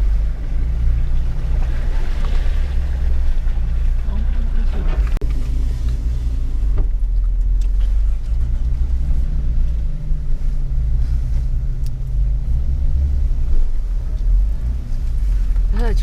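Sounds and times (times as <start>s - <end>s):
car engine running at low revs: 0.0s - 16.0s.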